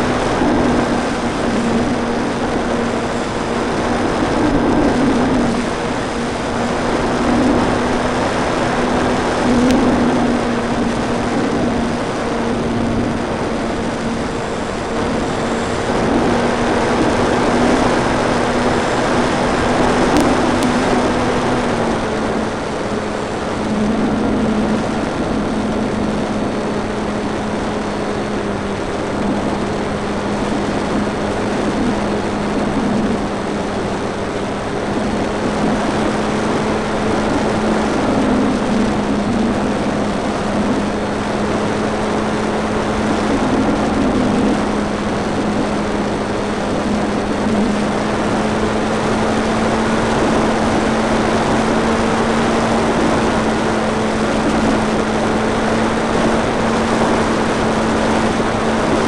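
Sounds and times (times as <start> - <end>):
model plane motor and propeller hum: 0.0 - 59.0
wind noise on microphone: 0.0 - 59.0.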